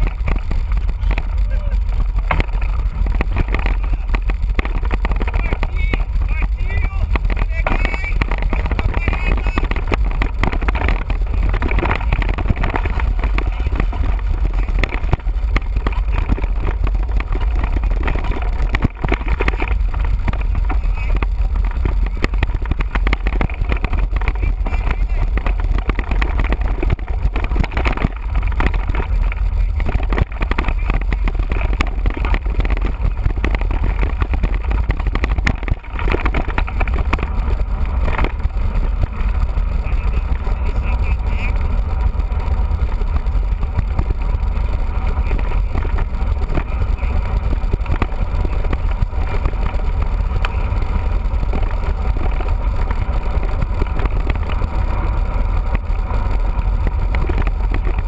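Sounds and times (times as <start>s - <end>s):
bike knocks and rattles: 0.0s - 58.0s
bike trail noise: 0.0s - 58.0s
wind buffeting microphone: 0.0s - 58.0s.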